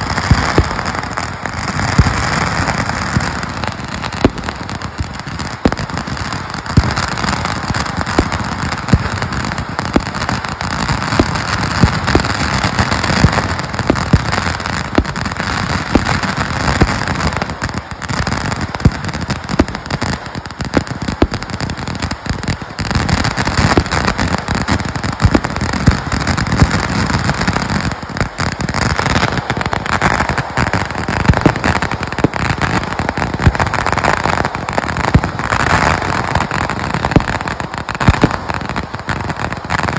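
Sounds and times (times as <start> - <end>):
firework bangs: 0.0 - 39.9
firework crackling: 0.0 - 39.9.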